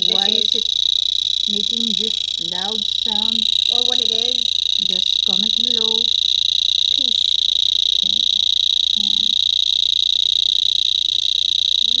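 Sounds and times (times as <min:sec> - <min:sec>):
cicada high-pitched buzz: 0:00.0 - 0:12.0.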